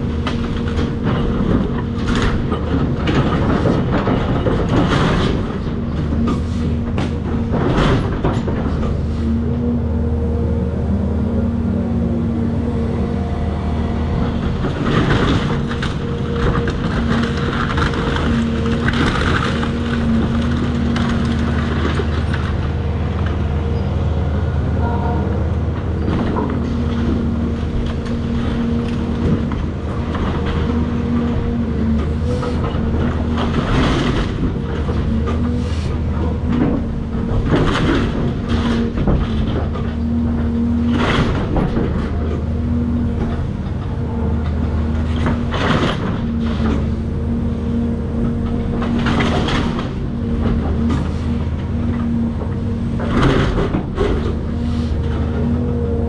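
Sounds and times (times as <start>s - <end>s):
excavator diesel engine running: 0.0s - 56.0s
demolition debris crashing: 0.2s - 9.1s, 14.2s - 22.7s, 25.7s - 47.3s, 48.2s - 55.7s.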